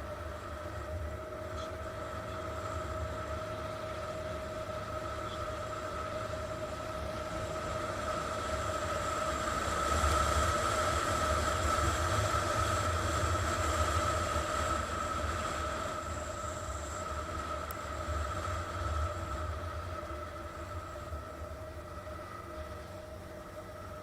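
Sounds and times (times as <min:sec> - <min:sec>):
scooter engine whine: 0:00.0 - 0:24.0.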